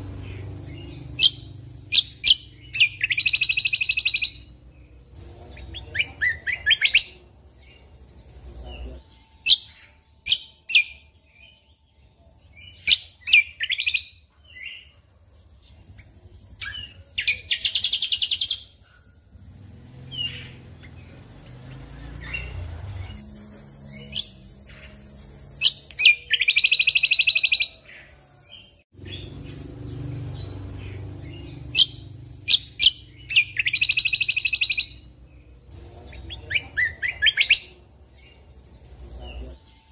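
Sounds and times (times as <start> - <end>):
bird chirps and buzzy trills: 0.0 - 39.9.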